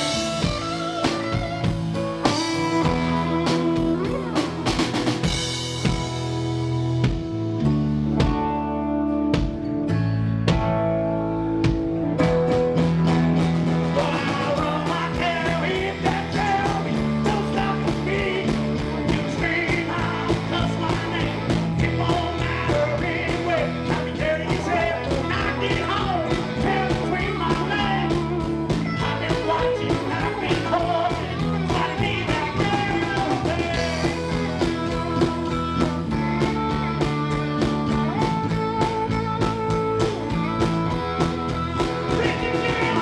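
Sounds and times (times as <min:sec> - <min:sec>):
steady drum beat: 0:00.0 - 0:07.5, 0:11.6 - 0:43.0
bass guitar: 0:00.0 - 0:43.0
electric guitars: 0:00.0 - 0:43.0.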